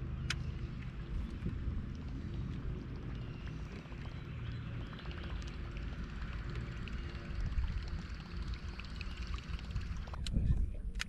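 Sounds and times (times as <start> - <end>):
water splashing and gurgling: 0.0 - 10.6
wind rumble on microphone: 0.0 - 11.0.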